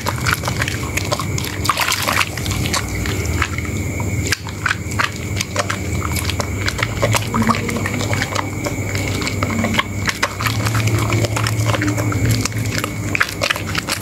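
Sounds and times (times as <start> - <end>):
lather bubbles crackling: 0.0 - 14.0
wet soap squishing: 0.0 - 14.0.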